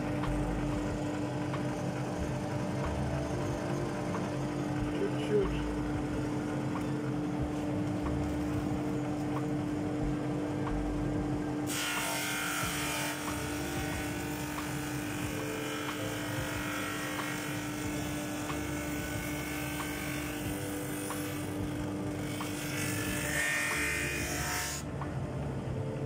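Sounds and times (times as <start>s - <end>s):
motor hum: 0.0s - 26.0s.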